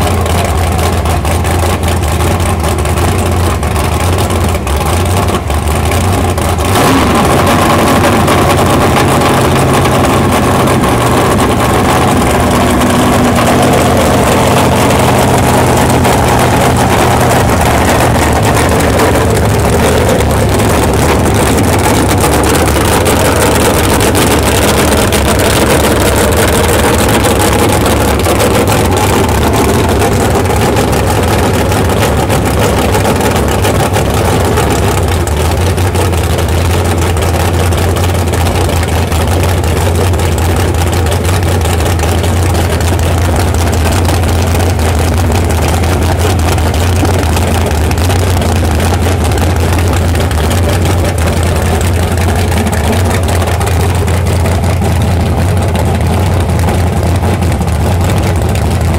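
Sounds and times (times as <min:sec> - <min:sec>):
engine running: 0:00.0 - 0:58.9.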